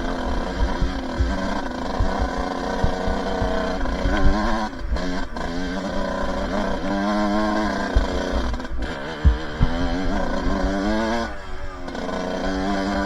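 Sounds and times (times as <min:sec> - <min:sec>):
low thumps: 0:00.0 - 0:11.3
dirt bike engine revving: 0:00.0 - 0:13.0.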